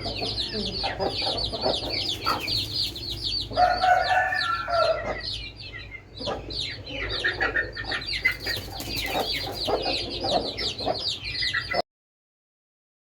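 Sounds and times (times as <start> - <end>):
chicks peeping: 0.0 - 11.8
hen clucking: 0.0 - 11.8.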